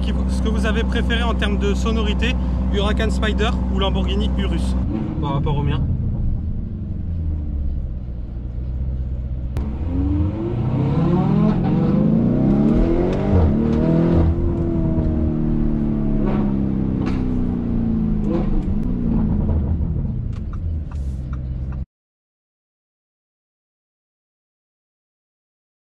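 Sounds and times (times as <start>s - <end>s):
car engine accelerating: 0.0s - 21.8s.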